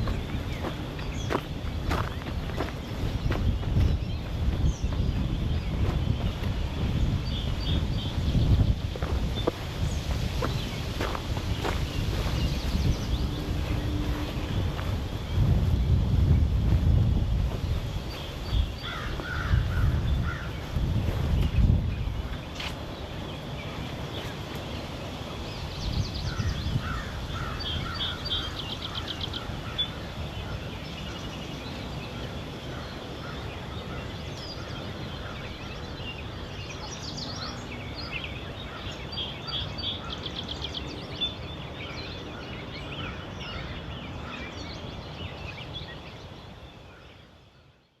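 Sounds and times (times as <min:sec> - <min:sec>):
low wind rumble: 0:00.0 - 0:47.9
birds chirping and trilling: 0:00.0 - 0:48.0.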